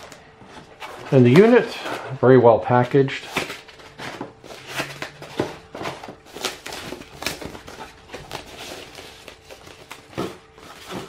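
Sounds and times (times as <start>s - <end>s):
plastic rustling and crinkling: 0.0s - 11.0s.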